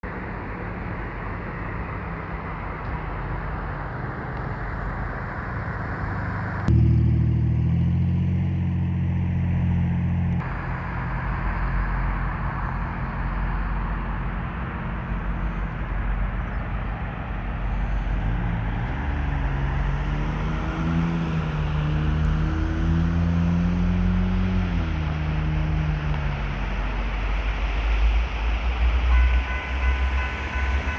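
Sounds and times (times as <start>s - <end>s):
heavy engines rumbling: 0.0s - 30.9s
loud low engine note: 5.8s - 30.9s.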